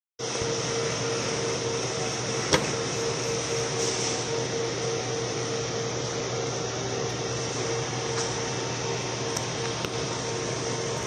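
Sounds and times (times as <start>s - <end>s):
printer fan whir: 0.2s - 11.0s.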